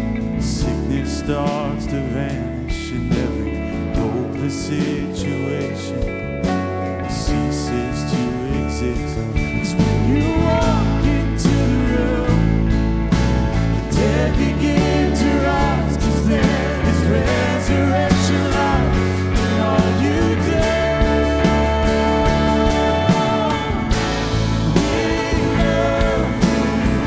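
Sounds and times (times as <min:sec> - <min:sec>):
worship band playing: 0:00.0 - 0:27.0
person singing: 0:00.4 - 0:13.1, 0:13.8 - 0:27.0.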